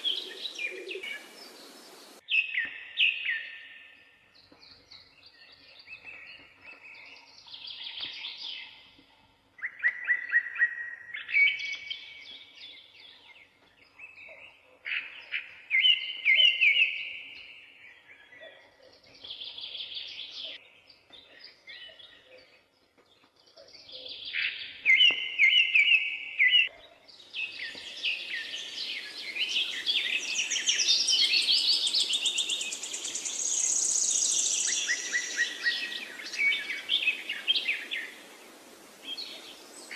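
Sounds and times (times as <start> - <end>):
birds singing: 0.0 - 9.0, 9.6 - 39.9.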